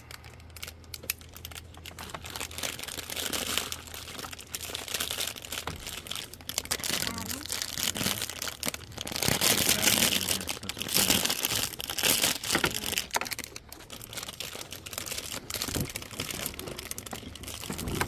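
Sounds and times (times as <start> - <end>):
plastic rustling and crinkling: 0.0 - 18.0.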